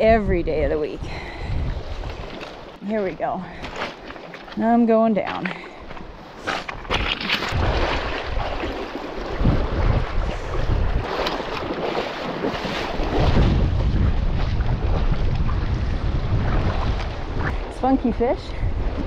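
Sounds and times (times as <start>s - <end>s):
wind buffeting microphone: 0.0s - 3.8s, 5.8s - 19.0s.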